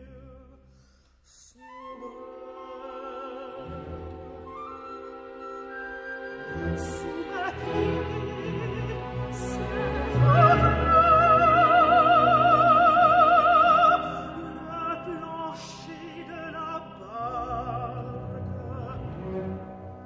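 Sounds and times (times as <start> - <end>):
soprano singing with vibrato: 1.4 - 5.4, 6.2 - 19.0
orchestra playing: 2.1 - 20.0.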